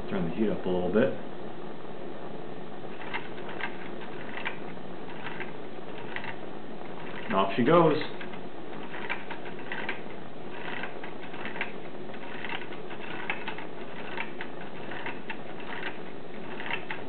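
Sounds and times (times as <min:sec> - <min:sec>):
engine linkages clicking and tapping: 0:02.9 - 0:17.0.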